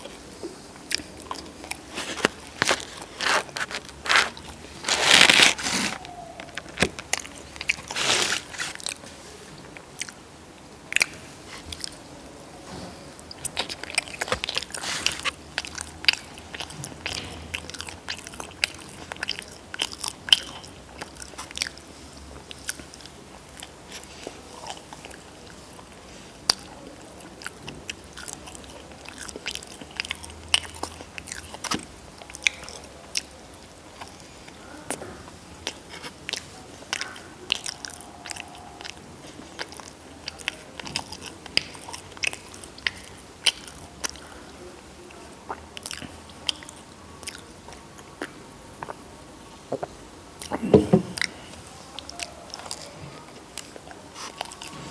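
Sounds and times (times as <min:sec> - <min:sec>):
crunchy food chewing: 0:00.4 - 0:09.1, 0:13.3 - 0:44.4, 0:45.1 - 0:49.0, 0:52.0 - 0:54.9.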